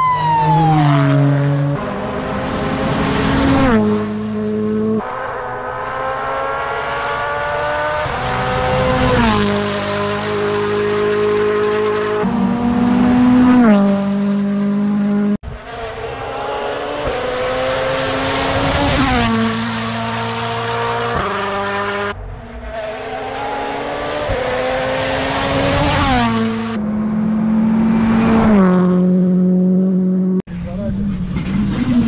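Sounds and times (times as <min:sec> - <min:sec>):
rally car engine revving: 0:00.7 - 0:32.0.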